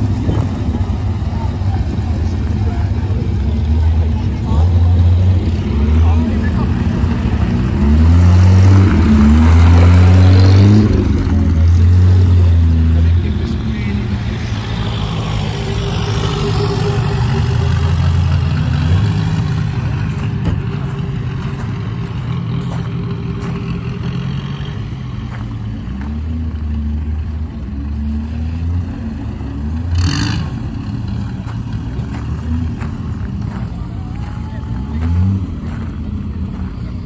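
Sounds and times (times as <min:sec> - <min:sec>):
car engines running at low revs: 0:00.0 - 0:37.0.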